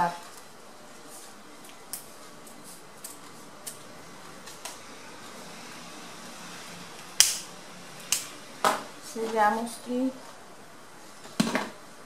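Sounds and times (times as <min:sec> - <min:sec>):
fan-like room hum: 0:00.0 - 0:12.0.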